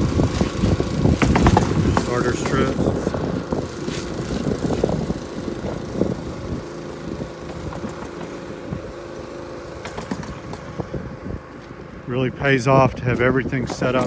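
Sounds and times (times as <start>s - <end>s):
air compressor engine running: 0.0s - 14.0s.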